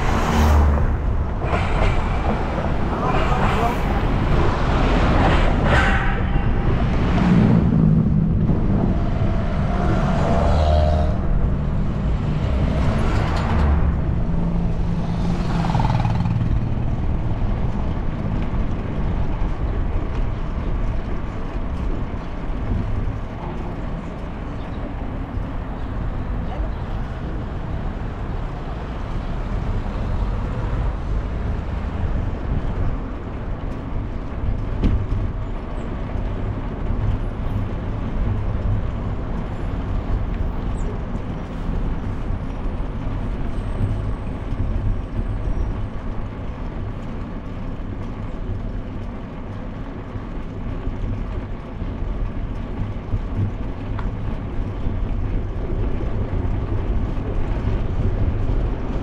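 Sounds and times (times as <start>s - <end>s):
low tyre rumble: 0.0s - 59.0s
wind buffeting microphone: 0.0s - 59.0s.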